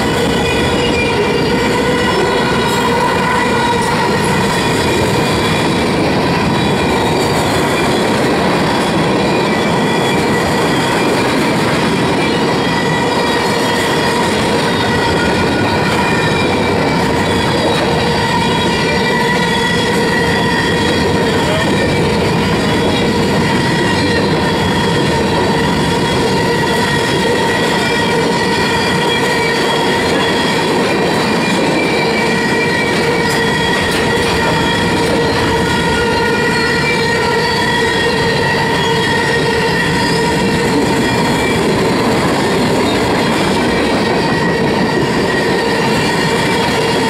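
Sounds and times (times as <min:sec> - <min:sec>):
high wheel squeal: 0:00.0 - 0:47.0
train wheels rumbling on rail: 0:00.0 - 0:47.0.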